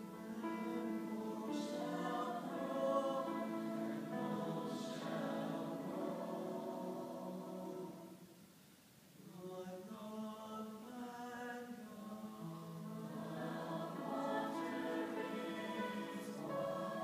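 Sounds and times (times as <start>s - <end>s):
choir singing held chords: 0.0s - 8.5s, 9.2s - 17.0s.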